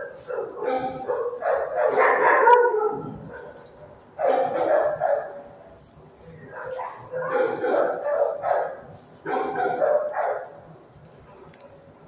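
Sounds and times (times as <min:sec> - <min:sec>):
dogs barking: 0:00.0 - 0:05.6, 0:06.4 - 0:11.6.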